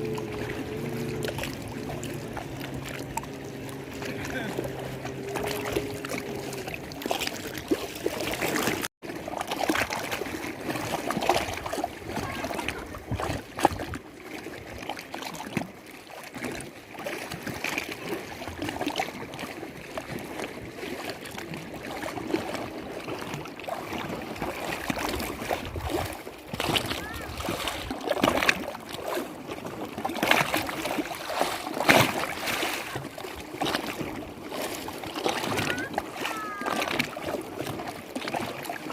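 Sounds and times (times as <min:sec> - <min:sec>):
lake water lapping and splashing: 0:00.0 - 0:38.9.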